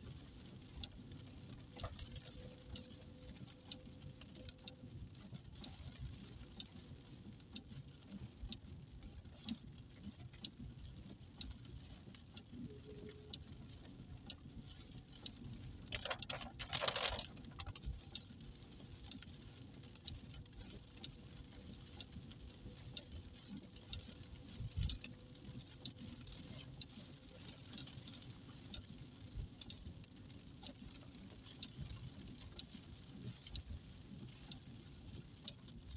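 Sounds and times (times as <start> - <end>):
rain pattering on a car: 0.0 - 35.9
tyres on a wet road: 0.0 - 35.9.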